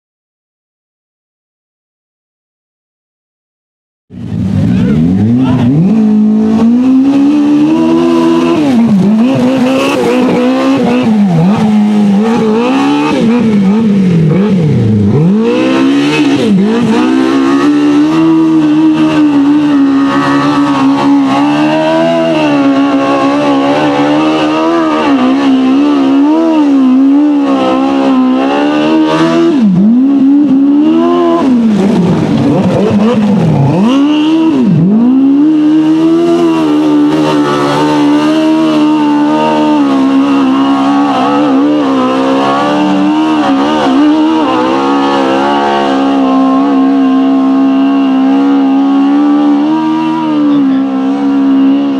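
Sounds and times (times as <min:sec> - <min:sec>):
engine revving hard: 0:04.3 - 0:51.9.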